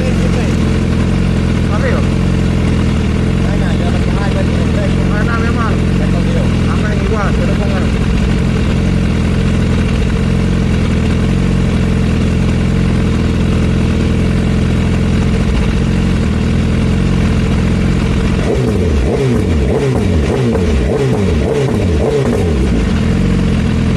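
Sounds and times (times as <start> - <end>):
superbike engine running: 0.0 - 23.9.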